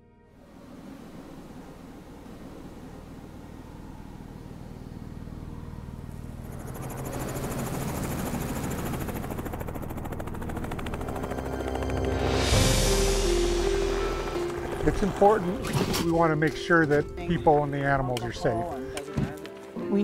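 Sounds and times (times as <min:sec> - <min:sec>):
helicopter rotor blades chopping: 0:01.2 - 0:18.4.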